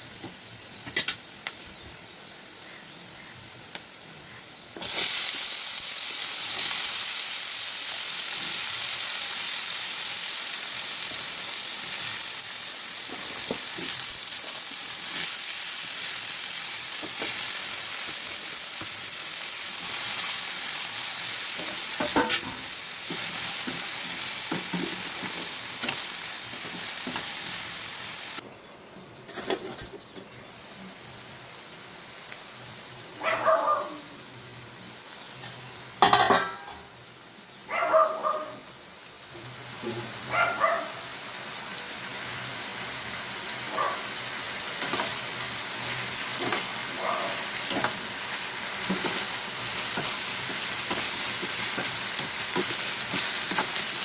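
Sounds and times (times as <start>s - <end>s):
food sizzling in oil: 0.0s - 28.4s, 33.8s - 37.4s, 38.6s - 54.0s.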